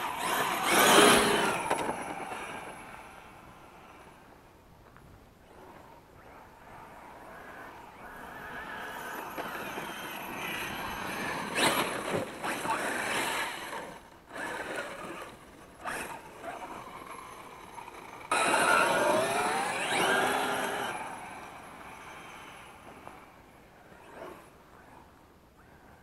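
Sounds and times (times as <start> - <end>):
rc car motor whining: 0.0 - 4.2, 5.5 - 25.0
tyres on gravel: 0.0 - 24.8.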